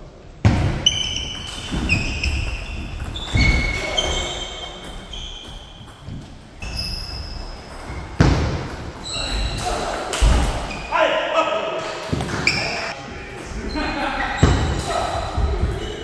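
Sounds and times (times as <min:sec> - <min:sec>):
shoes squeaking on floor: 0:00.8 - 0:11.0, 0:12.1 - 0:13.0, 0:13.6 - 0:16.0.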